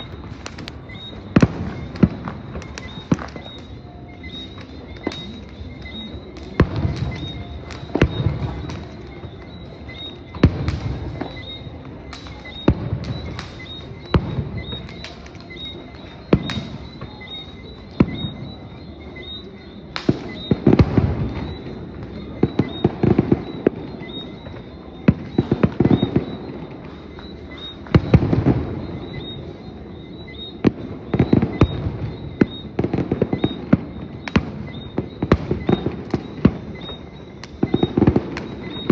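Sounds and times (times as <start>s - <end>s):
fireworks bursting with bangs: 0.0s - 38.9s
fireworks crackling: 0.0s - 38.9s.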